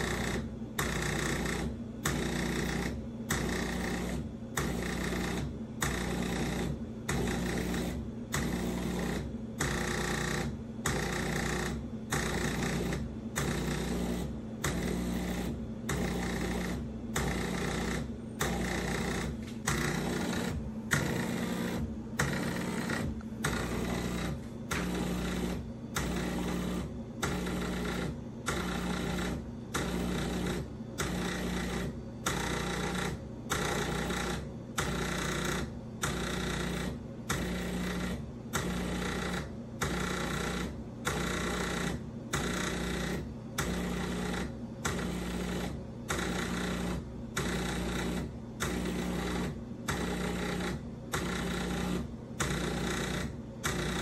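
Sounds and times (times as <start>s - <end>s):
constant low hum: 0.0s - 52.6s
espresso machine pump pulsing: 0.0s - 54.0s.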